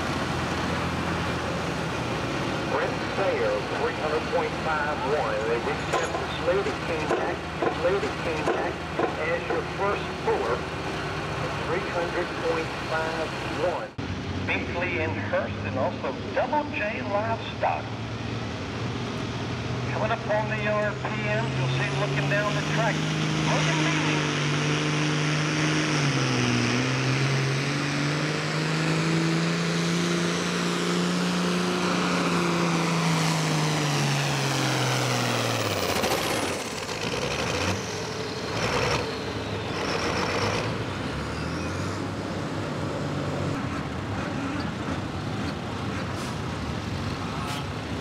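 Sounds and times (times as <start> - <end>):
diesel tractor engine at full throttle: 0.0 - 48.0.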